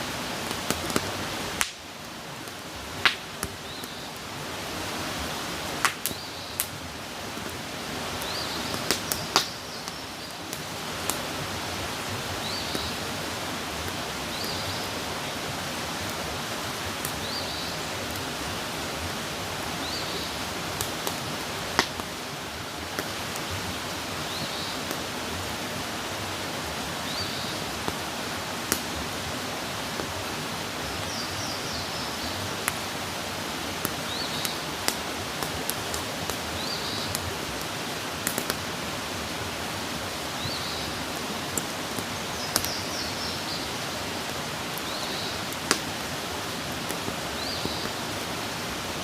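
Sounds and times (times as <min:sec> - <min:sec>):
campfire crackling: 0:00.0 - 0:49.0.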